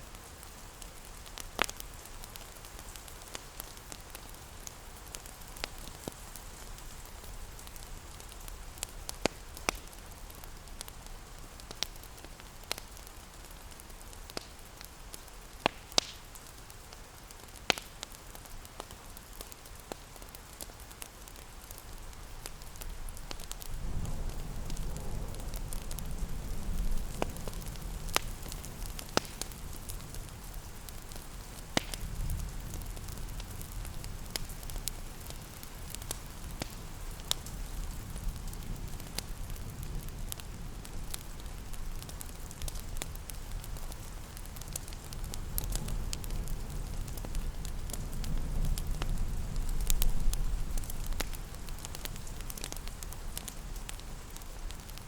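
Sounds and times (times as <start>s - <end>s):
rain hiss: 0.0s - 55.0s
wood fire crackling: 0.0s - 55.0s.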